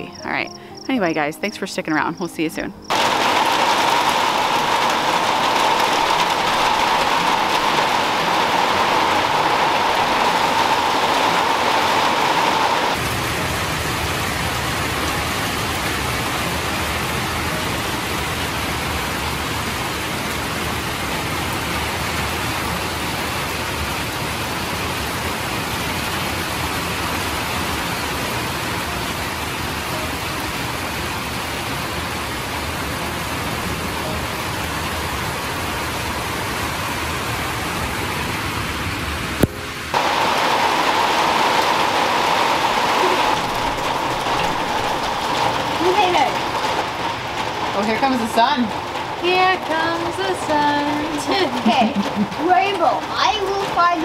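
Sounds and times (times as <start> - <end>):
heavy rain falling: 2.9 - 54.0.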